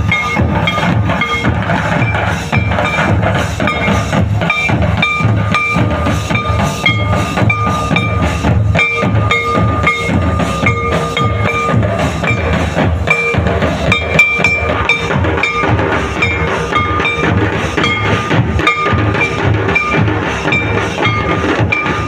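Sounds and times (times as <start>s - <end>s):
rhythmic folk drumming: 0.0s - 22.0s
steady high tone: 0.0s - 22.0s.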